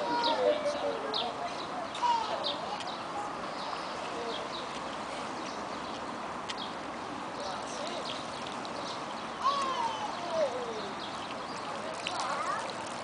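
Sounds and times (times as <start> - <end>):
background murmur: 0.0 - 13.0.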